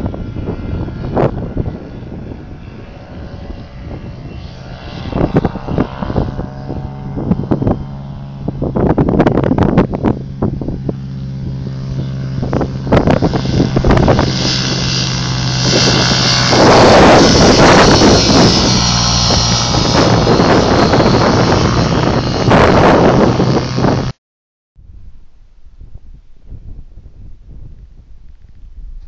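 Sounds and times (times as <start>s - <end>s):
light aircraft engine droning: 0.0s - 24.1s
wind buffeting microphone: 0.0s - 24.1s, 24.8s - 29.0s.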